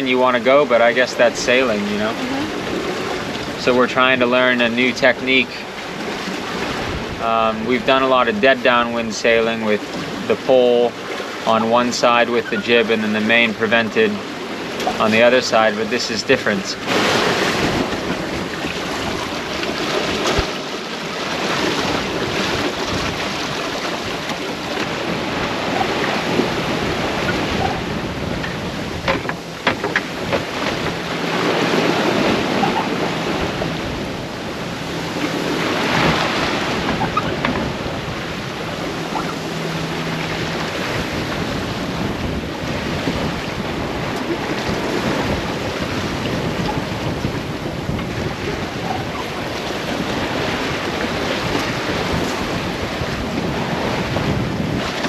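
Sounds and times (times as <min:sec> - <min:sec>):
water rushing along hull: 0:00.0 - 0:55.0
wind blowing on microphone: 0:00.0 - 0:55.0.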